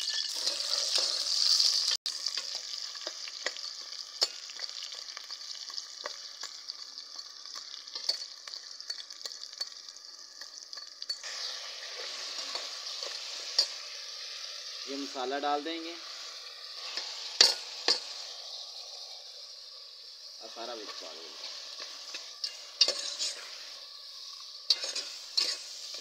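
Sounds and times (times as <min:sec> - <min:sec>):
onions sizzling in a pot: 0:00.0 - 0:26.0.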